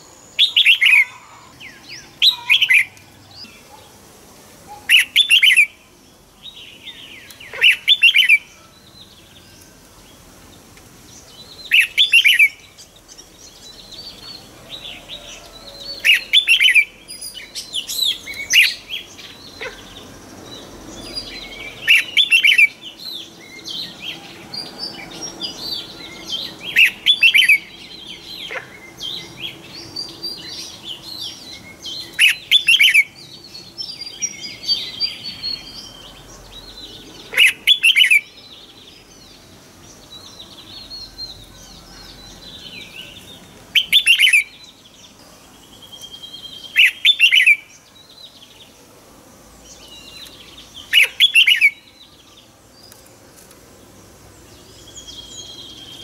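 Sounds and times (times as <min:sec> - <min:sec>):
soft bird chirping: 0:00.0 - 0:04.0, 0:04.7 - 0:56.0.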